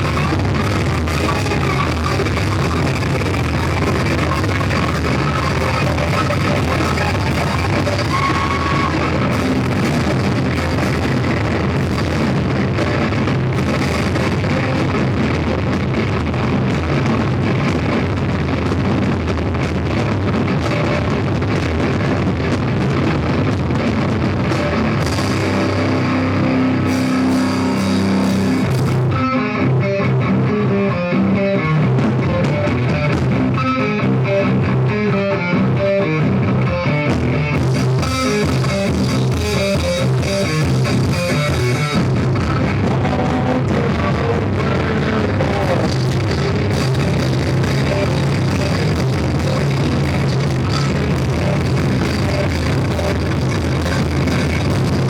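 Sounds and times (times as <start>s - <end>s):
bass guitar: 0.0s - 55.0s
distorted electric guitars: 0.0s - 55.0s
drum kit: 0.0s - 55.0s.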